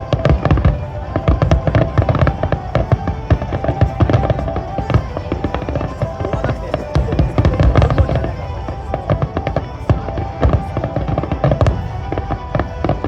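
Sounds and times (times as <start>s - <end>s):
fireworks booming and cracking: 0.0s - 13.0s.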